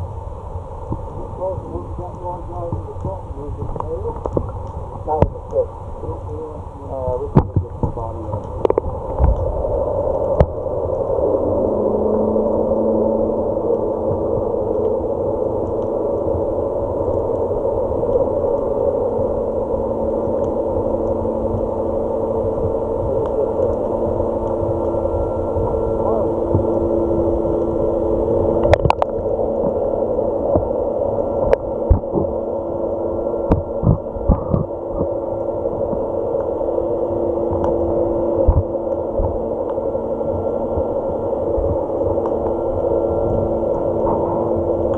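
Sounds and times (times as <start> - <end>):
humming tones: 0.0 - 44.9
muffled underwater rumble: 0.0 - 44.9.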